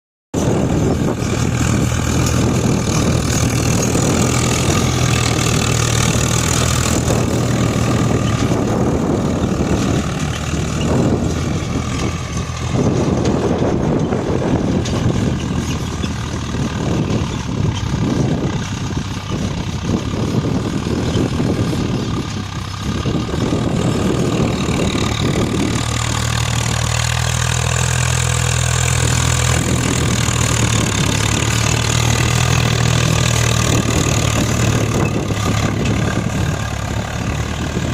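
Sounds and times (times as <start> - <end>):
tractor diesel engine running: 0.4 - 37.9.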